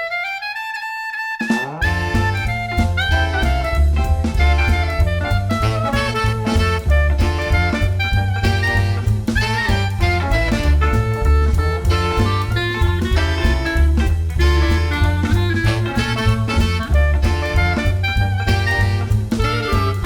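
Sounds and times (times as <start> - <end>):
saxophone: 0.0 - 20.0
drum kit swing beat: 1.4 - 20.0
walking bass: 1.6 - 20.0.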